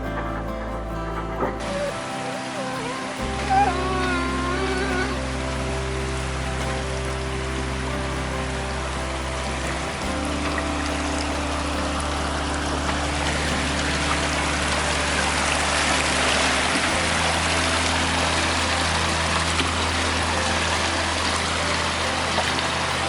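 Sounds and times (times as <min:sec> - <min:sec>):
slow low chords music: 0:00.0 - 0:23.0
rushing splashing water: 0:01.3 - 0:23.0.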